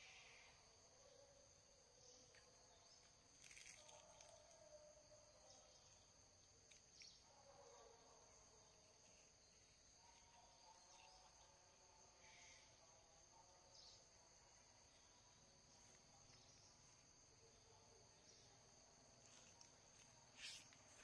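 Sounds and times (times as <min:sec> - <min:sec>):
faint chirps: 0:00.0 - 0:21.0.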